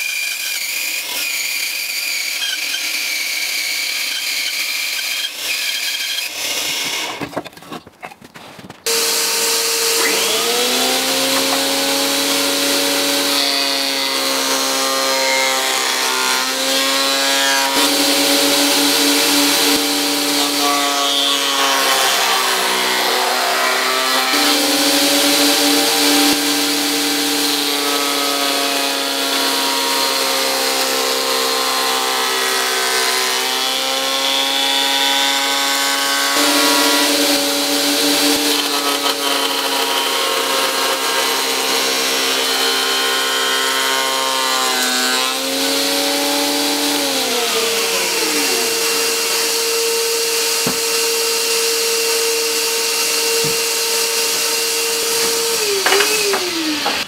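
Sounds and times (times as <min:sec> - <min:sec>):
planer motor whine: 0:08.9 - 0:57.0.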